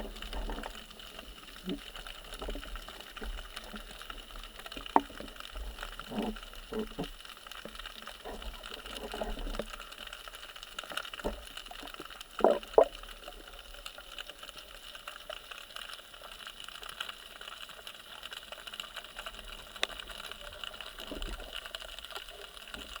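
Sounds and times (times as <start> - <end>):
water: 0.0 - 23.0
small clicks: 0.1 - 23.0.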